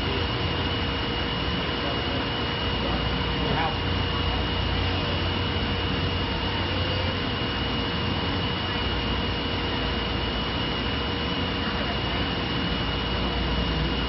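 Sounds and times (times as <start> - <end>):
high-pitched machine whine: 0.0 - 14.0.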